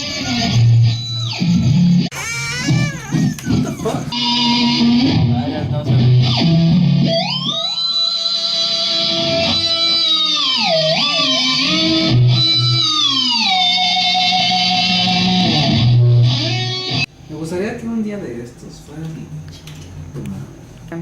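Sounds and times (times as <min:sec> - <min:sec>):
electric guitar with effects: 0:00.0 - 0:17.1.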